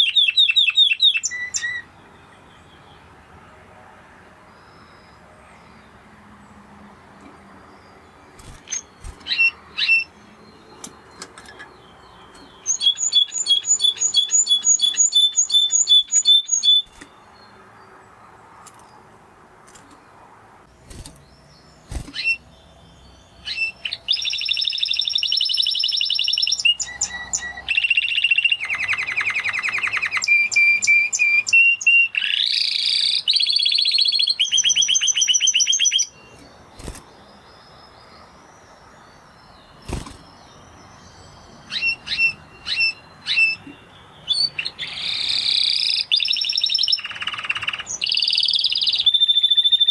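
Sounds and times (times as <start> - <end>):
canary singing: 0.0 - 3.3, 4.5 - 49.9.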